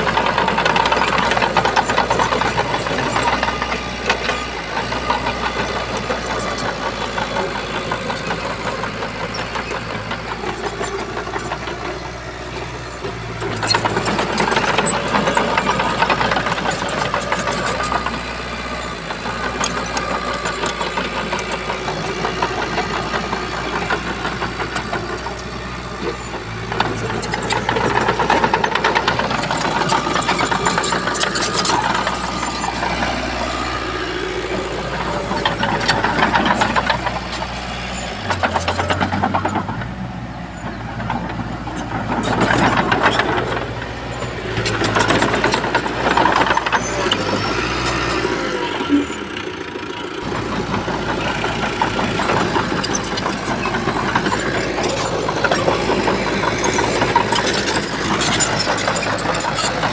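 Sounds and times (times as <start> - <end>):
bulldozer diesel engine clattering: 0.0 - 59.9.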